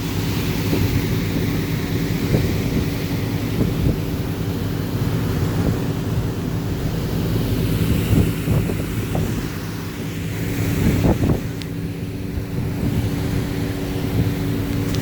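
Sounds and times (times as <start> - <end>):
boat engine running: 0.0 - 15.0
wind blowing on microphone: 0.0 - 15.0.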